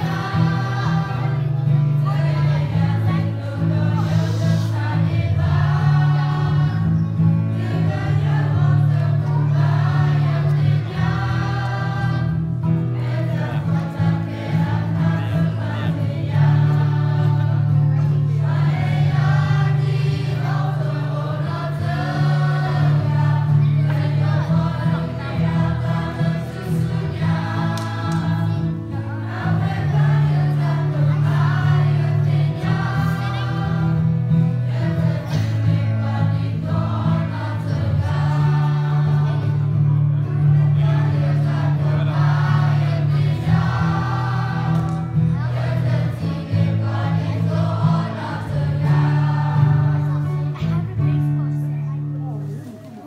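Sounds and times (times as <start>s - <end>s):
youth choir singing: 0.0s - 51.4s.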